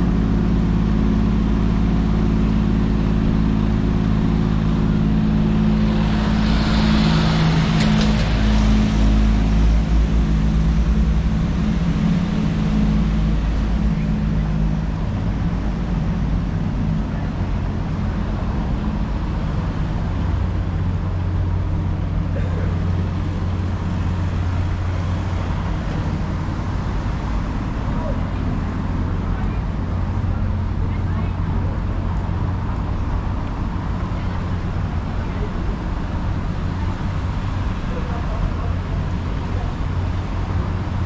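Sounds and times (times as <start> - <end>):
passing cars: 0.0 - 41.0
vehicle engine humming: 0.0 - 41.0.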